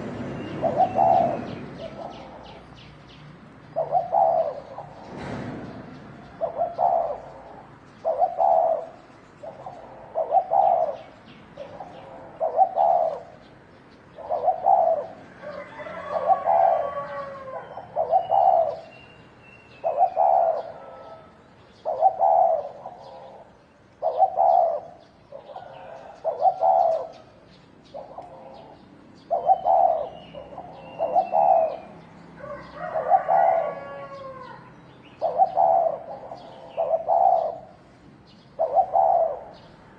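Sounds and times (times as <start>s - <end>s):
doves cooing: 0.0s - 2.9s, 3.6s - 13.5s, 14.1s - 19.0s, 19.7s - 39.8s.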